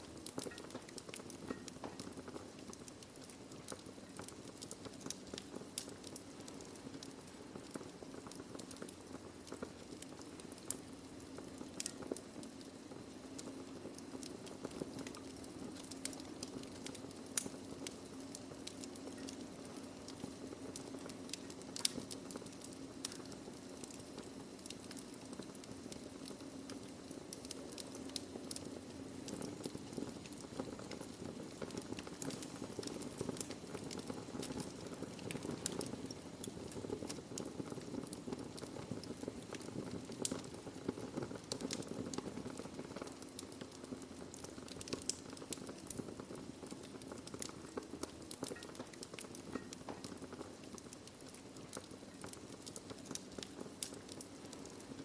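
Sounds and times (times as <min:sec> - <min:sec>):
fire crackling and popping: 0:00.0 - 0:55.0
low rush of flame: 0:00.0 - 0:55.0.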